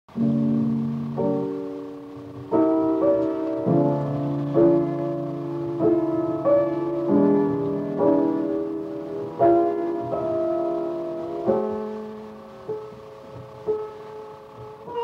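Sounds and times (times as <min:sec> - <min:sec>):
slow solo piano: 0:00.1 - 0:15.0.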